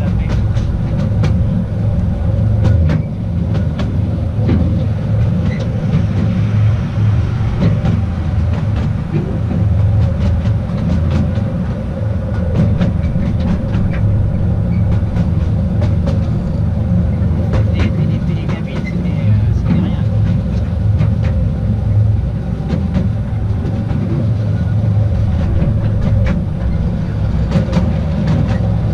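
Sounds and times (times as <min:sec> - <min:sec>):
constant hum: 0:00.0 - 0:28.9
sharp clicks of train: 0:00.0 - 0:28.9
train wheels rumbling on rail: 0:00.0 - 0:28.9.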